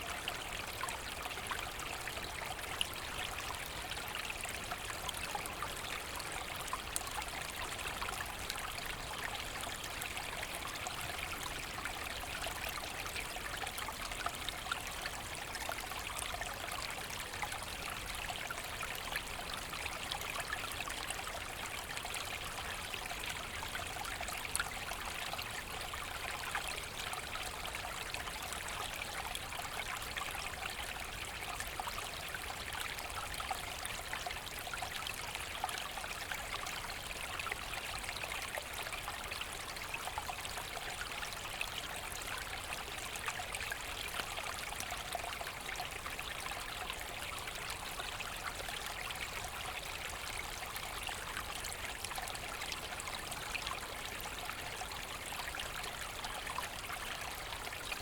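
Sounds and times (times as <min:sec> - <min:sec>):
brook trickling over stones: 0:00.0 - 0:58.0.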